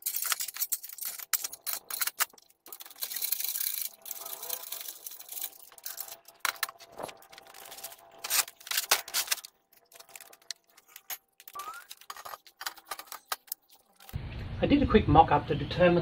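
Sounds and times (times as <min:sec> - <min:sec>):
metallic clinks and clatter: 0:00.0 - 0:14.2.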